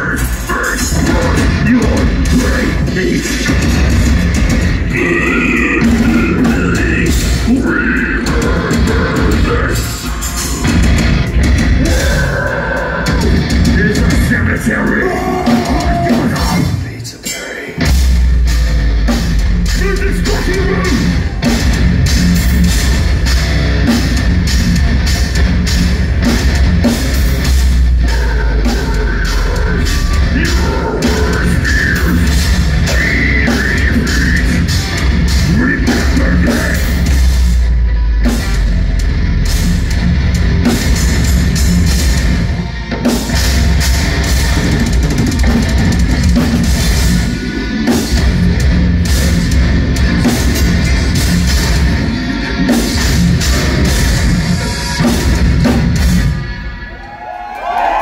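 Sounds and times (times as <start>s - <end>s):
bass guitar: 0.0s - 17.0s, 17.8s - 58.0s
fast drum and cymbal hits: 0.0s - 17.0s, 17.8s - 58.0s
distorted electric guitars: 0.0s - 58.0s.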